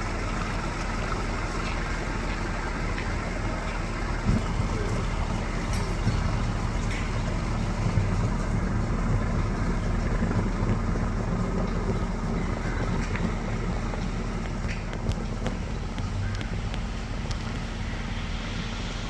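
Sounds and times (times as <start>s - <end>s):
vehicle interior rumble: 0.0s - 19.0s.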